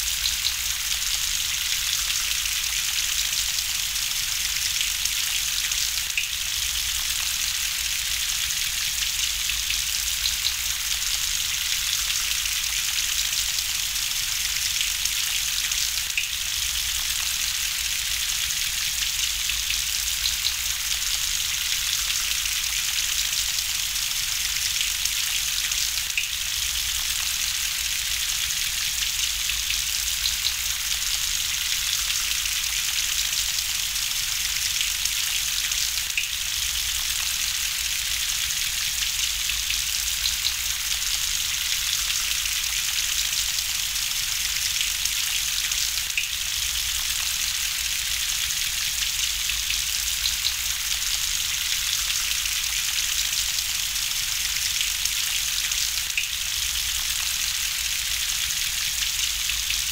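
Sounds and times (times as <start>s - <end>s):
gentle rain: 0.0s - 59.9s.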